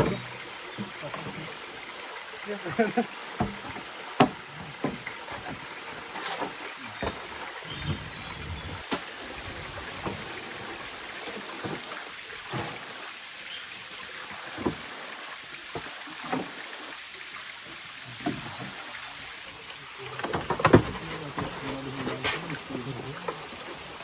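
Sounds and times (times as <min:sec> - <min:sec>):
hiss of running water: 0:00.0 - 0:24.0.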